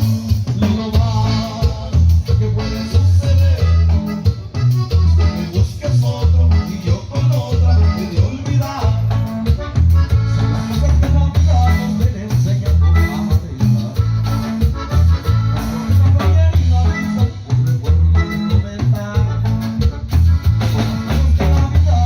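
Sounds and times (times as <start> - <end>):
live latin band music: 0.0 - 22.0.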